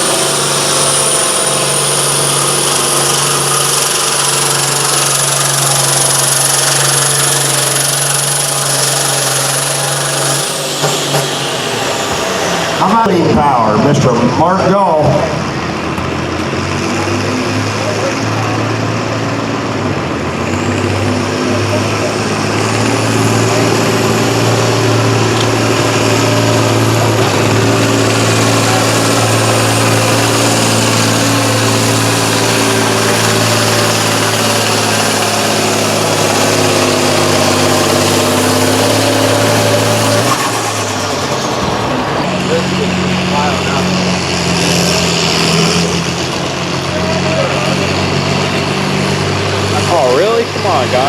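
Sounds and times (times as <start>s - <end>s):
tractor engine at full power: 0.0s - 51.0s.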